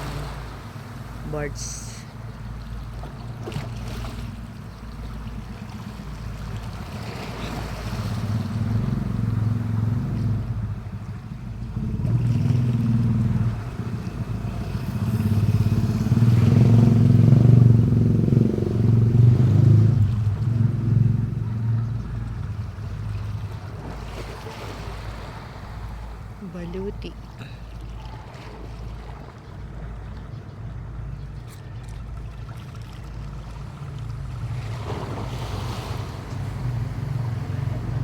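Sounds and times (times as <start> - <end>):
motor engine running: 1.6 - 38.0.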